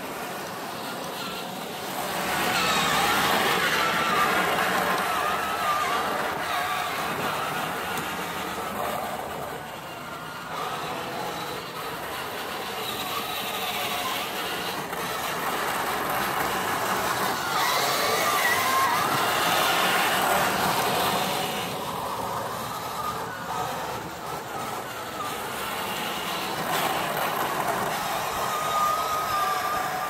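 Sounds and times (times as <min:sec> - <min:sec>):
toy tank electric motors whining: 0:00.0 - 0:30.0.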